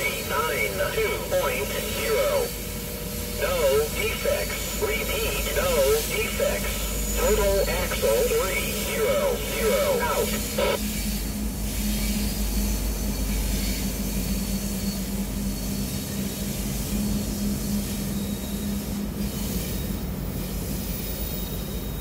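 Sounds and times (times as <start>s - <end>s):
diesel locomotive engine hum: 0.0s - 22.0s.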